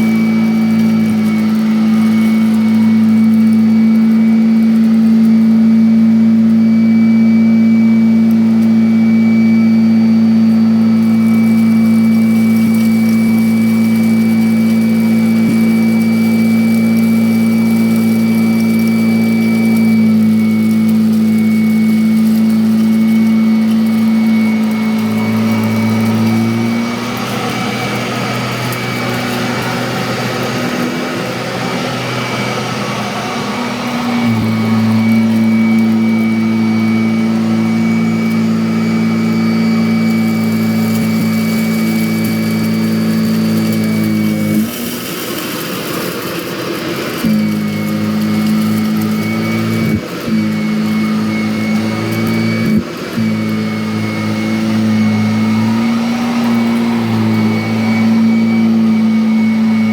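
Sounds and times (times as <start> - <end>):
vacuum cleaner motor hum and whine: 0.0 - 59.9.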